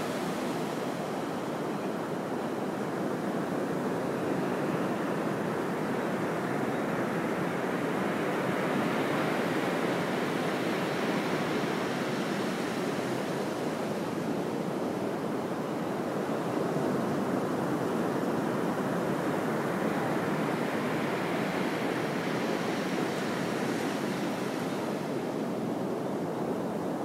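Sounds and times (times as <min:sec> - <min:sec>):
ocean surf washing: 0:00.0 - 0:27.0.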